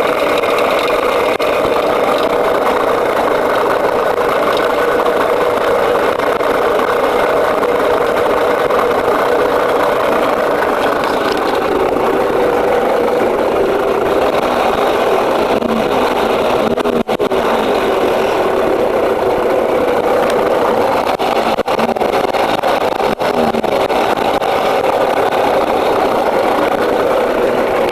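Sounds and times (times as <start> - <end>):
engine running with rattle: 0.0 - 27.9.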